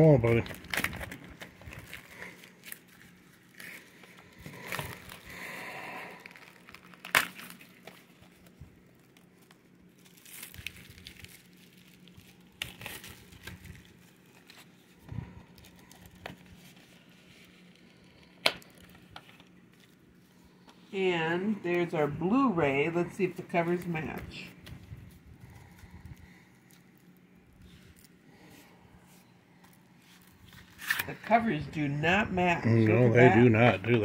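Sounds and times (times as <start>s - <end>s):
plastic wrap crinkling and tearing: 0.0s - 20.7s, 23.6s - 31.3s.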